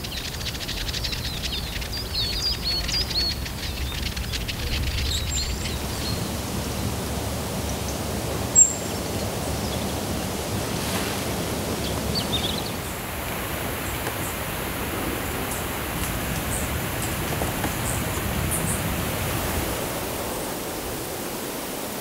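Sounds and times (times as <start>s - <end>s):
songbirds chirping: 0.0s - 21.2s
steady rushing hiss: 0.0s - 22.0s.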